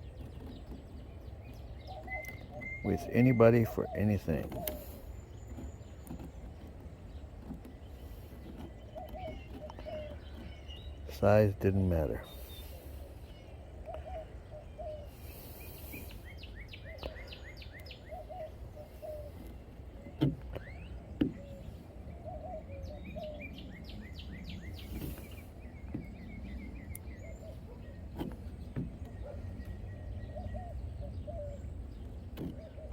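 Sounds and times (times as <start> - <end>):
songbirds chirping: 0.0 - 32.9.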